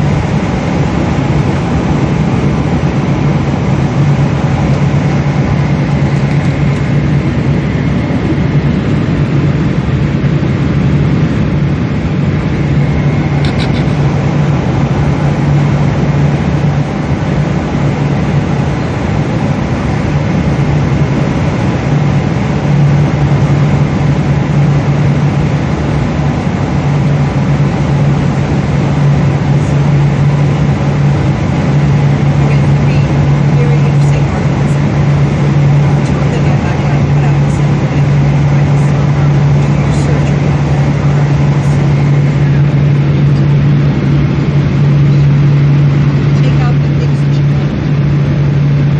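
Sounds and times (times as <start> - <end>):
constant low hum: 0.0 - 48.9
jet engines and airflow rush: 0.0 - 48.9.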